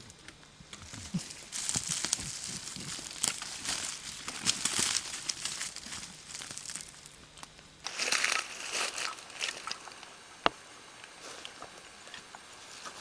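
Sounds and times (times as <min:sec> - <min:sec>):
rustling and crinkling crackle: 0:00.0 - 0:13.0.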